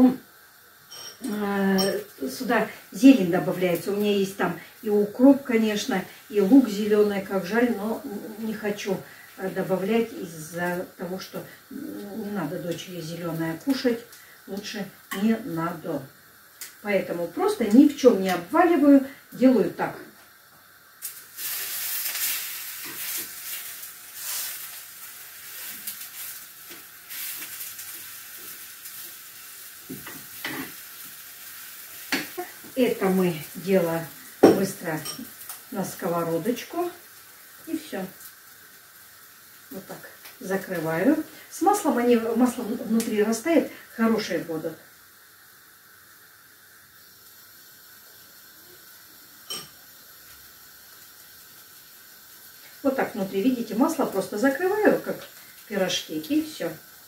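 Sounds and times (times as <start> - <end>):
food sizzling in hot oil: 0.0 - 57.0.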